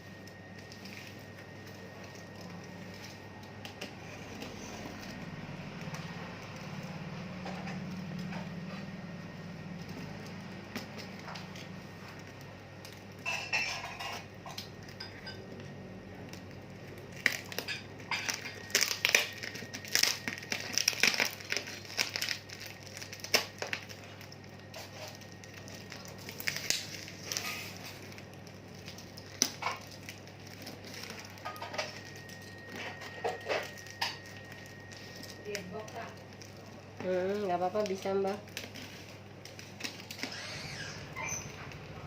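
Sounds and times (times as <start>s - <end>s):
low steady hum: 0.0s - 42.0s
packaging crinkling and crackling: 0.0s - 42.0s.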